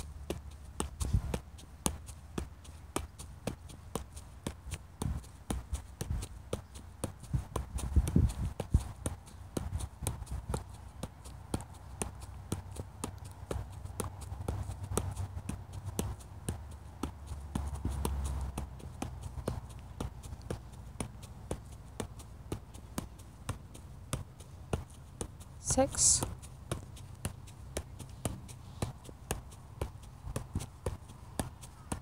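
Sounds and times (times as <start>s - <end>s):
ball being juggled taps: 0.0s - 32.0s.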